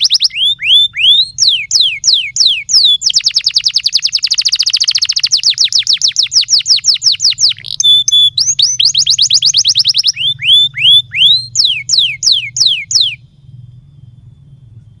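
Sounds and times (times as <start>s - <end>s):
canary singing trills: 0.0s - 15.0s
faint low hum: 0.0s - 15.0s.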